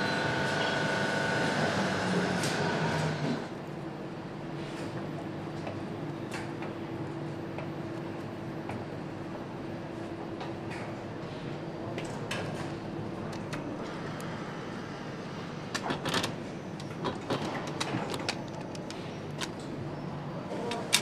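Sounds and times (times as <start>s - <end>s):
machinery hum: 0.0s - 21.0s.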